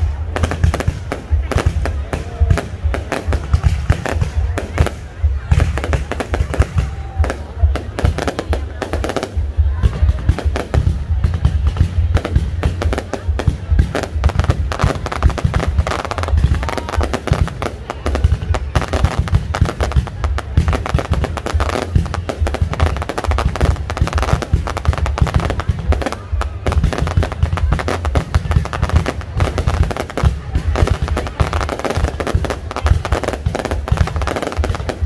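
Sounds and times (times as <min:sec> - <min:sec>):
deep firework booms: 0:00.0 - 0:35.0
fireworks bangs and crackling: 0:00.0 - 0:35.0.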